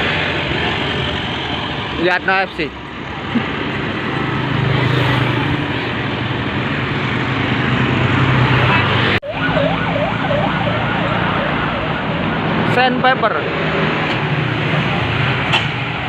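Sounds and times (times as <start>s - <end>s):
bus passing with low drone: 0.0s - 16.0s.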